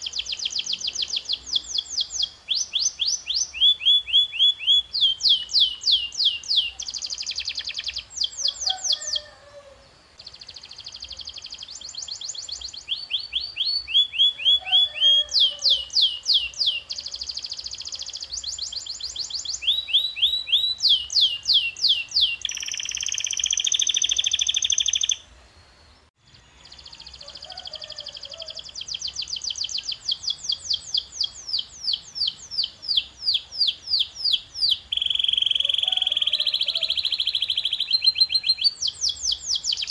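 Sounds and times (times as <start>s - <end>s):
canary singing: 0.0s - 25.3s, 26.3s - 39.9s.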